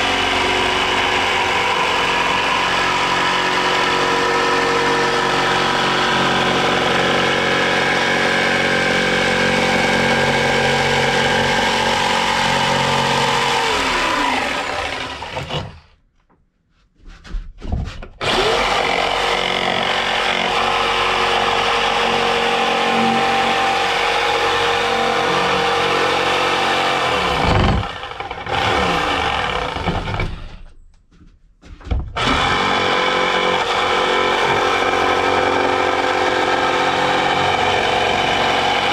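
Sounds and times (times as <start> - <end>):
electric jigsaw cutting wood: 0.0 - 16.0, 18.2 - 30.6, 32.2 - 38.9.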